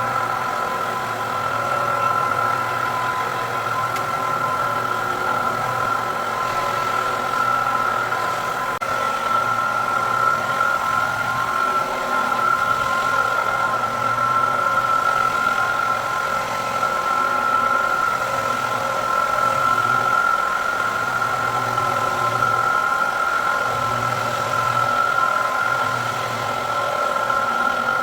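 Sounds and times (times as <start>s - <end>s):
electric motor hum and whine: 0.0s - 28.0s.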